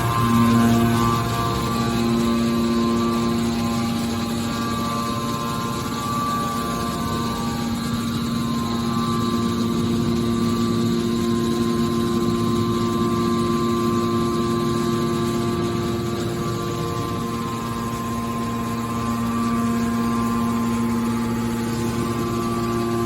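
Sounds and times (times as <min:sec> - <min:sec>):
baler power unit humming: 0:00.0 - 0:23.0.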